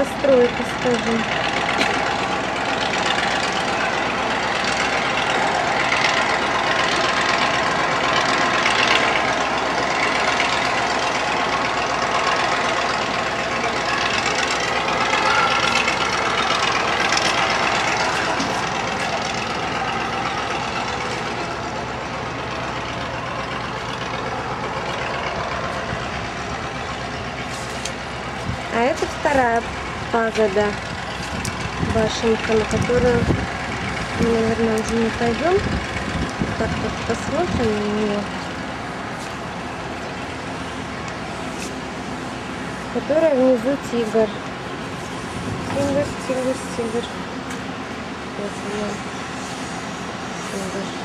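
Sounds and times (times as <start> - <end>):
city traffic rumble: 0.0 - 51.0.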